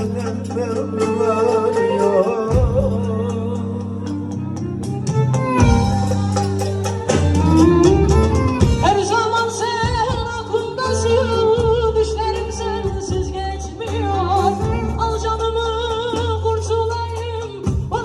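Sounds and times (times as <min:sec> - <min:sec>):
sustained bass notes: 0:00.0 - 0:18.0.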